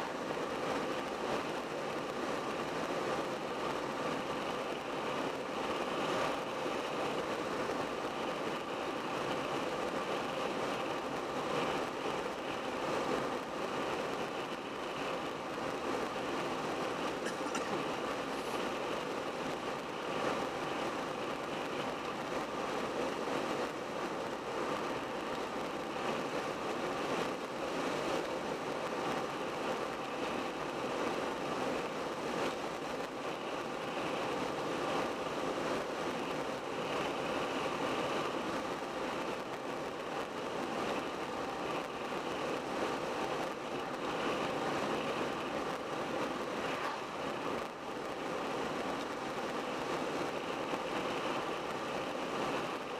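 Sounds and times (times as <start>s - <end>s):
tyres rolling on road: 0.0s - 52.9s.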